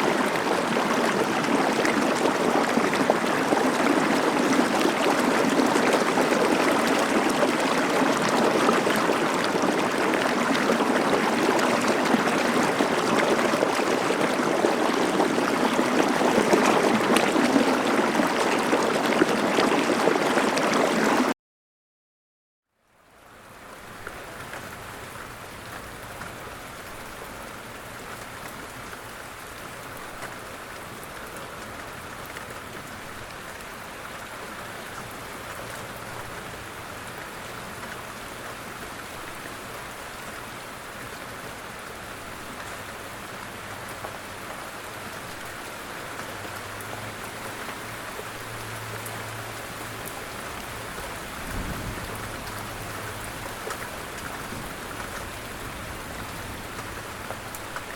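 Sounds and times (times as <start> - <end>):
rain falling: 0.0 - 21.4, 23.0 - 57.9.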